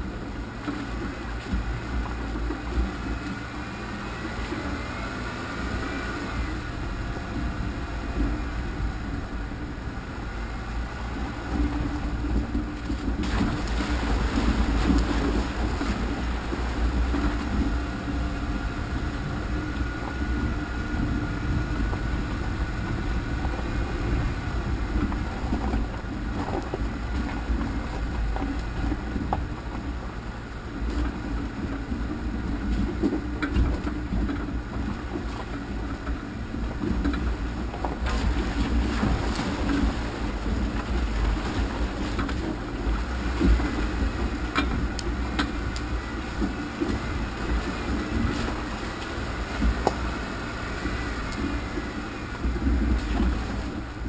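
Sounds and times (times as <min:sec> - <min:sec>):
off-road vehicle engine rumbling: 0:00.0 - 0:54.0.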